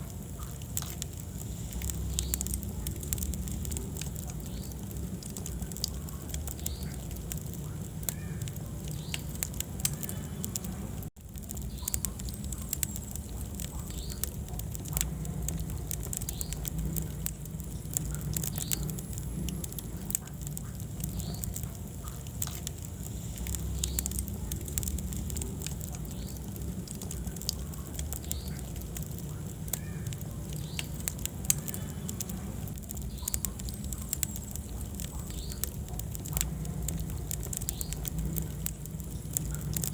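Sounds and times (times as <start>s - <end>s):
burning logs crackling: 0.0s - 39.9s
fire flames rumbling: 0.0s - 39.9s.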